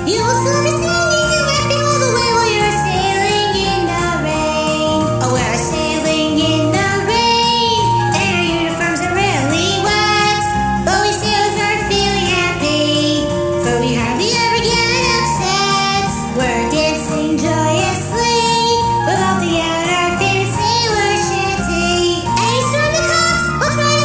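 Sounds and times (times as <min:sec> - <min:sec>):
high voice singing: 0:00.0 - 0:24.0
instrumental backing: 0:00.0 - 0:24.0.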